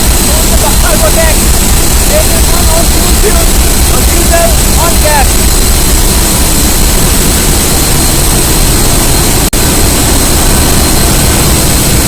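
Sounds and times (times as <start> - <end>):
engine room machinery roar: 0.0 - 12.0
faint high whine: 0.0 - 12.0.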